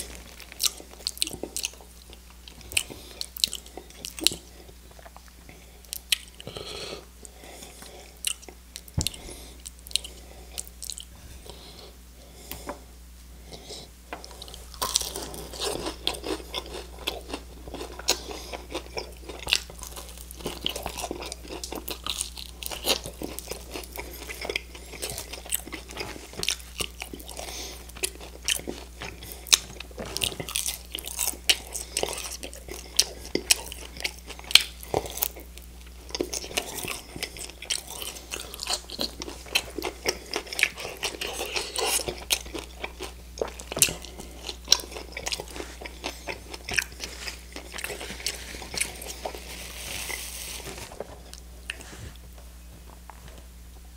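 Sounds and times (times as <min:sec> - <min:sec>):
chewing crispy chicken: 0:00.0 - 0:11.6, 0:14.2 - 0:53.4
steady low hum: 0:00.0 - 0:53.9.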